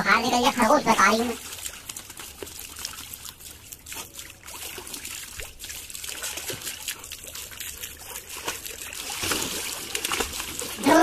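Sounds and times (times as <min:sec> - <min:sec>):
hose water splashing into pool: 0:00.1 - 0:11.0.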